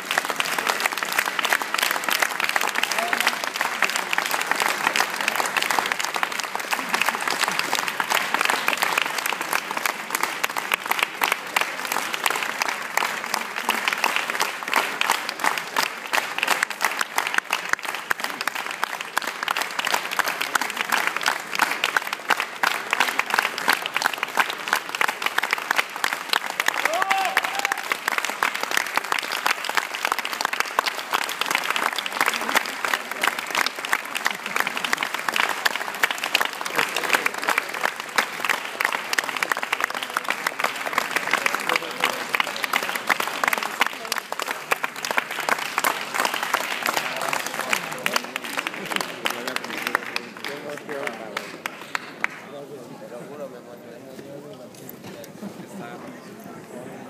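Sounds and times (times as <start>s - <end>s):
audience applauding: 0.0s - 53.2s.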